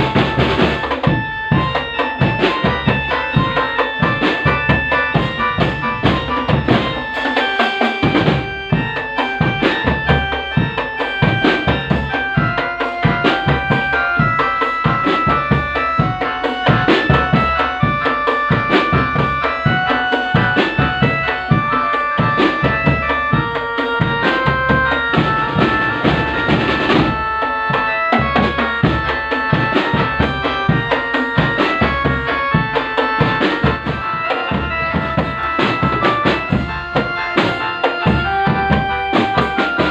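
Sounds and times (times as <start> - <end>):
bass drum beat: 0.0 - 7.2, 8.0 - 39.9
drum band music: 0.0 - 39.9.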